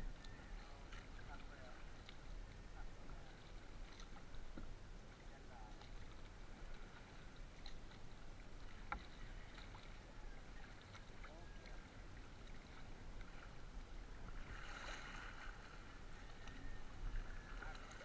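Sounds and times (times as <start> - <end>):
paddle stroking through water: 0.0 - 18.0
water trickling and lapping: 0.0 - 18.0.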